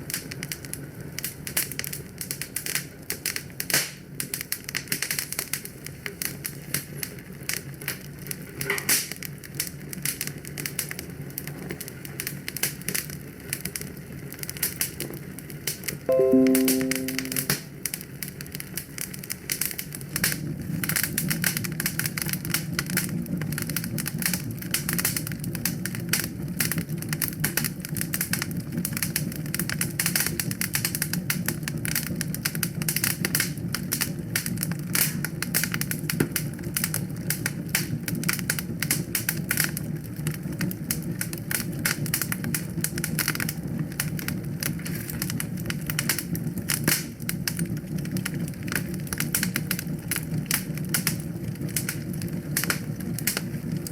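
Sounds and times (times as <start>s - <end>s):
wood fire crackling and popping: 0.0s - 16.0s, 18.4s - 53.9s.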